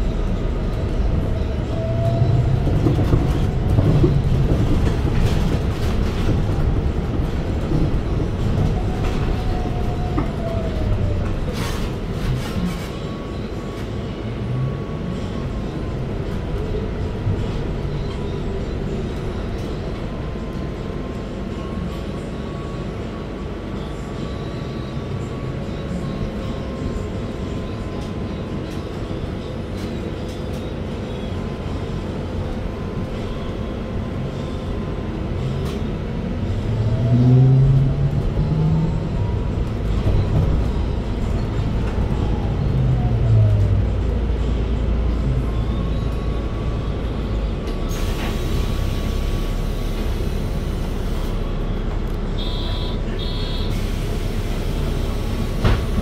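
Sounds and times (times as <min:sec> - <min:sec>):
bus low rumble: 0:00.0 - 0:56.0
electric bus drive whine: 0:00.0 - 0:56.0.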